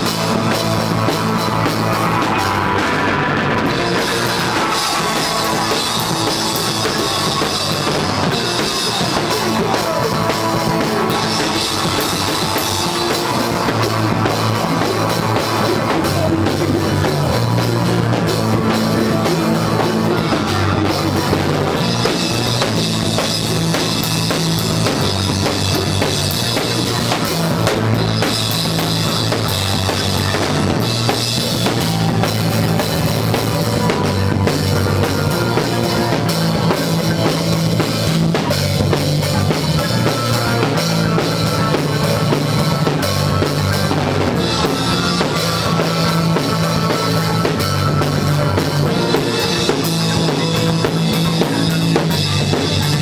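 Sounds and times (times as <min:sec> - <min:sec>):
bass lines: 0:00.0 - 0:53.0
drum kit: 0:00.0 - 0:53.0
rock band playing live: 0:00.0 - 0:53.0.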